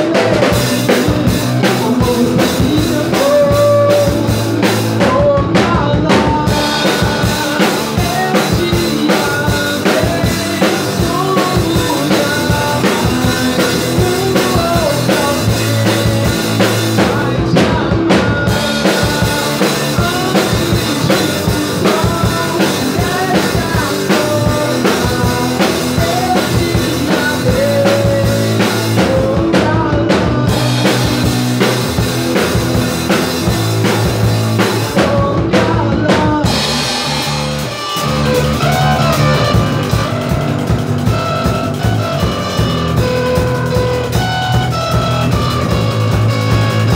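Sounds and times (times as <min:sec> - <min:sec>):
drum rimshots: 0:00.0 - 0:46.9
rock band playing live: 0:00.0 - 0:46.9.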